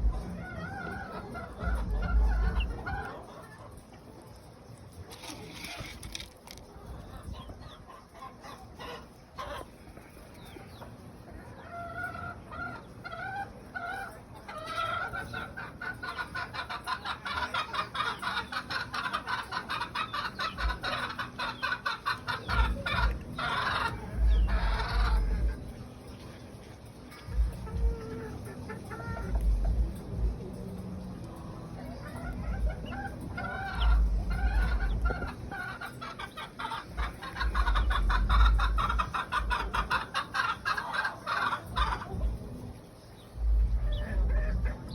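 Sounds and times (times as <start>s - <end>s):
game birds clucking: 0.0s - 30.3s, 31.9s - 44.9s.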